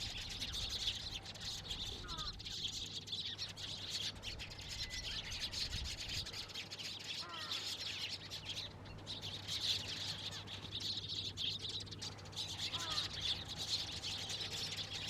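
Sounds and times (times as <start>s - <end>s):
sparrows chirping: 0.0s - 15.0s.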